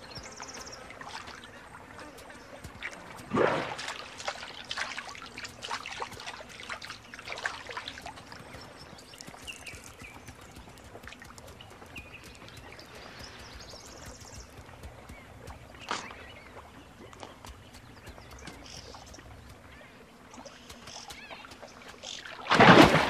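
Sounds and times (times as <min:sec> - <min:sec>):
faint chirping calls: 0:00.0 - 0:03.2, 0:04.5 - 0:22.4
water dripping: 0:00.0 - 0:23.0
water splashing: 0:00.0 - 0:23.0.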